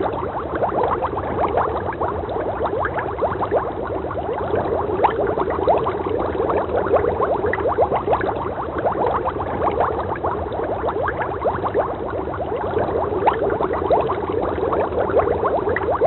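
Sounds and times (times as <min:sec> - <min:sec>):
water bubbling and gurgling: 0:00.0 - 0:16.0.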